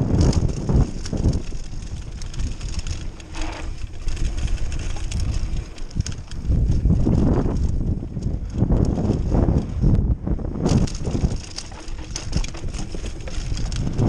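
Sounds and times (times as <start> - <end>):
bike rattling and knocking: 0.0 - 14.0
wind buffeting microphone: 0.0 - 14.0.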